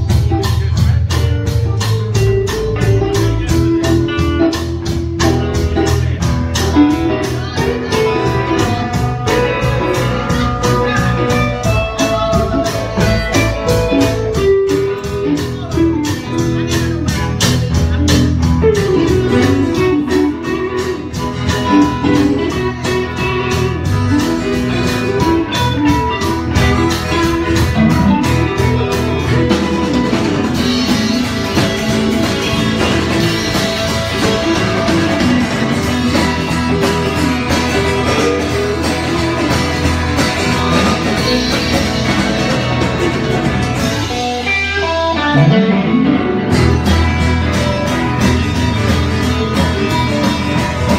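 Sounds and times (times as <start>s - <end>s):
electric guitar melody: 0.0s - 50.9s
guitar chords: 0.0s - 50.9s
steady drum beat: 0.0s - 50.9s.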